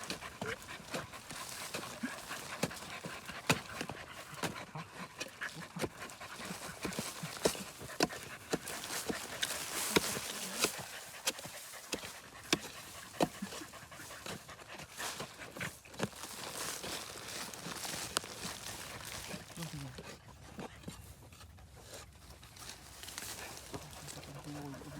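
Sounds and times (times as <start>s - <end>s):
dog panting: 0.0s - 24.9s.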